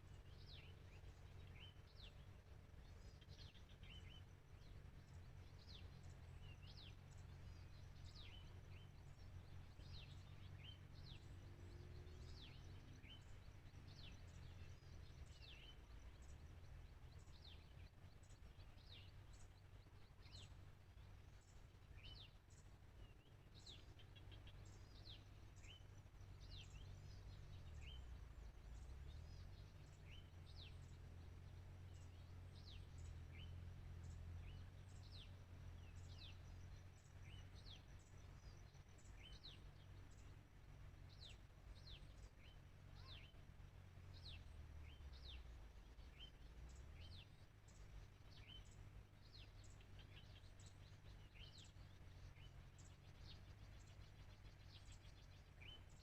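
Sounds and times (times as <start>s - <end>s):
low steady rumble: 0.0s - 56.0s
small birds chirping: 0.0s - 56.0s.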